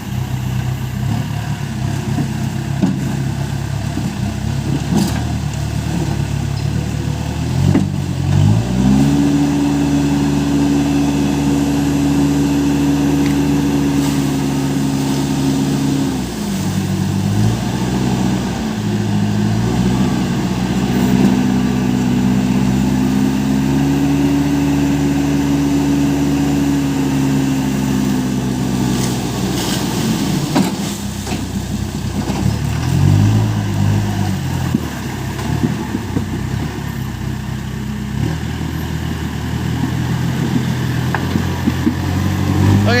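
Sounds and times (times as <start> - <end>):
diesel engine revving: 0.0 - 43.0.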